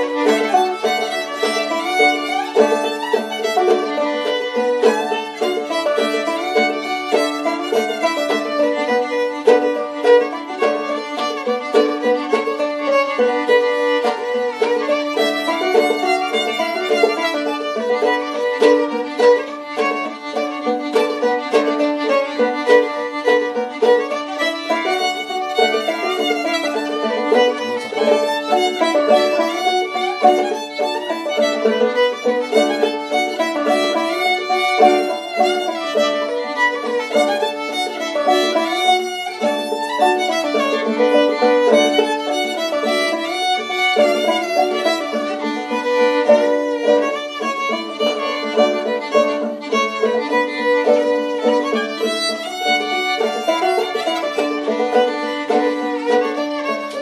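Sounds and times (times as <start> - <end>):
banjo picking rhythm: 0.0 - 57.0
fiddle playing melody: 0.0 - 57.0.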